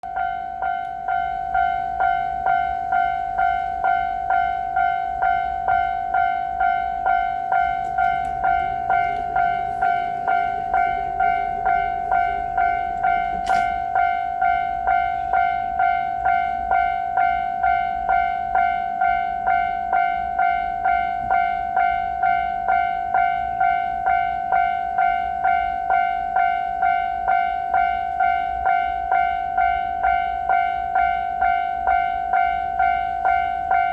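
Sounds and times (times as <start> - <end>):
railroad crossing bell ringing: 0.0 - 33.9.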